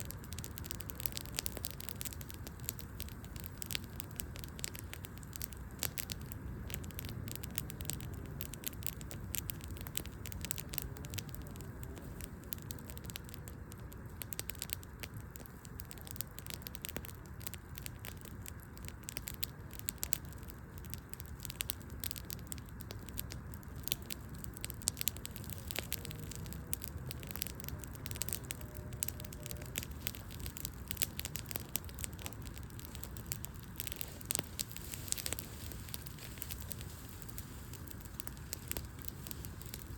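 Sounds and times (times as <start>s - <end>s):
burning logs popping: 0.0s - 39.9s
flames low noise: 0.0s - 39.9s.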